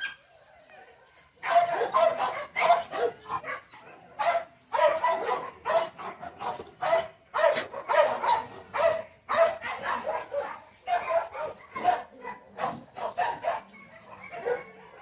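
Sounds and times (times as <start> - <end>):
dog barking: 1.4 - 15.0.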